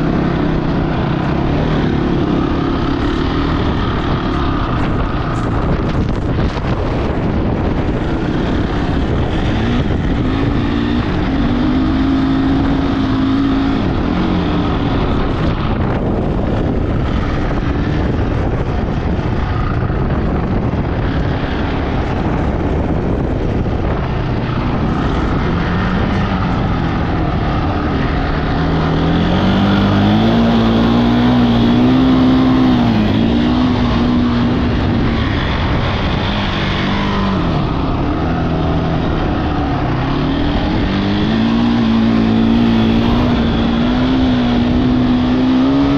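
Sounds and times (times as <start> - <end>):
wind noise on microphone: 0.0 - 45.9.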